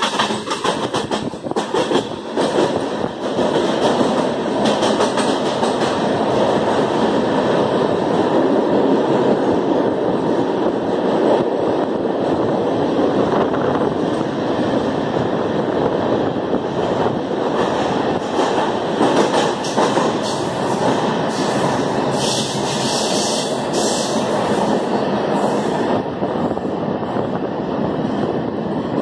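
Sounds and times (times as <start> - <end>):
train wheels on rail in tunnel: 0.0 - 29.0.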